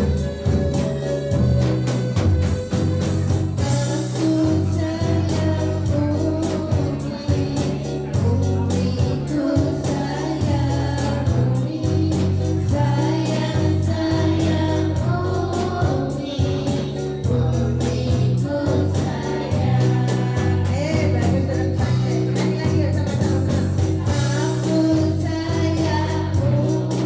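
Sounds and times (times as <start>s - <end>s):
drum kit: 0.0s - 27.0s
electronic keyboard: 0.0s - 27.0s
frame drum beat: 0.0s - 27.0s
hand drums: 0.0s - 27.0s
women singing in chorus: 3.6s - 27.0s.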